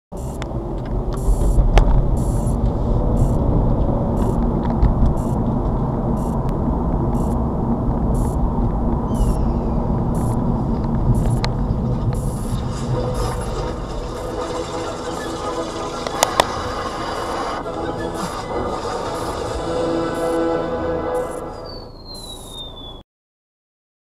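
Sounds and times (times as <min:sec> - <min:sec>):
low rumble inside car cabin: 0:00.1 - 0:22.8
car engine idling: 0:00.2 - 0:22.6.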